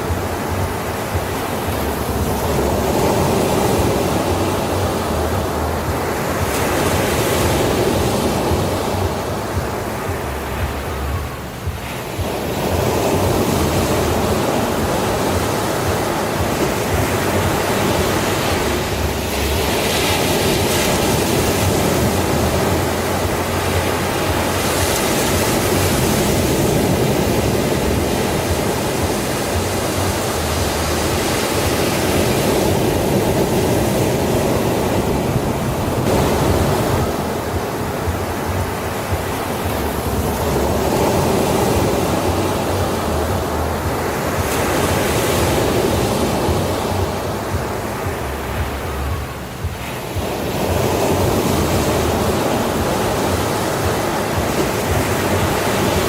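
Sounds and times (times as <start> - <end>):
sea waves breaking on a beach: 0.0 - 56.0.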